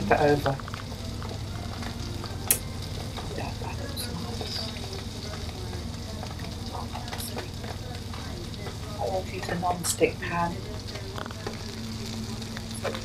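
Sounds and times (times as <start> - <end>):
fish fillets sizzling in a pan: 0.0 - 13.0.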